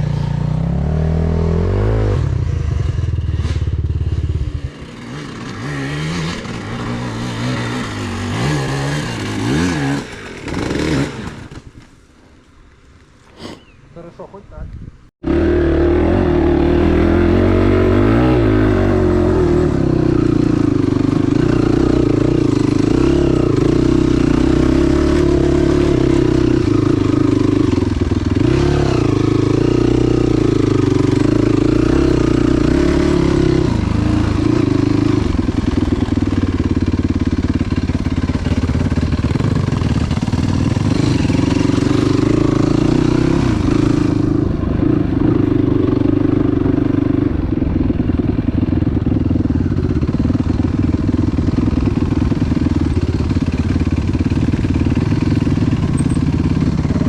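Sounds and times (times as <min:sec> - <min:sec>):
motorcycle engine under load: 0:00.0 - 0:12.0, 0:15.2 - 0:57.0.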